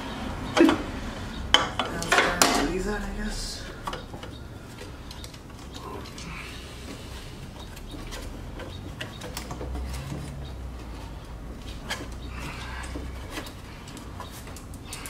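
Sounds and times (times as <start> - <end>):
hands clicking and tapping parts: 0.0 - 3.0, 3.7 - 15.0.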